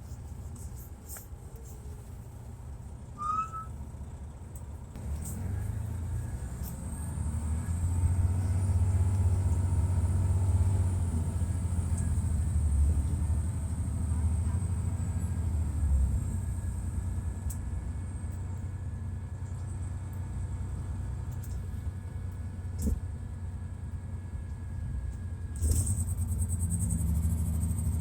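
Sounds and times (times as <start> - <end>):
diesel engine rumble: 0.0 - 28.0.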